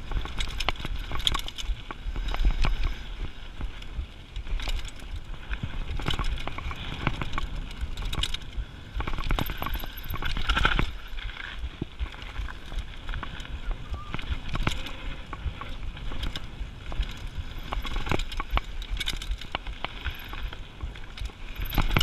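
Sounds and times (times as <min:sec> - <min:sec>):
bike rattling and clicking: 0:00.0 - 0:22.0.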